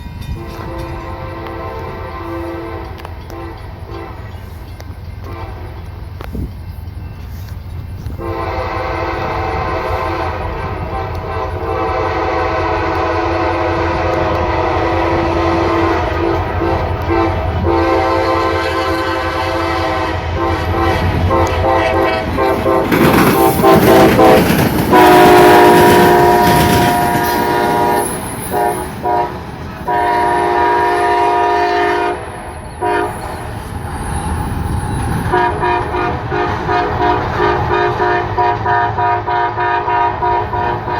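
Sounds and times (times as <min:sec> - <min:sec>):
locomotive engines rumbling: 0:00.0 - 0:40.9
locomotive air horn blasts: 0:00.3 - 0:05.9, 0:08.0 - 0:33.4, 0:35.2 - 0:40.9.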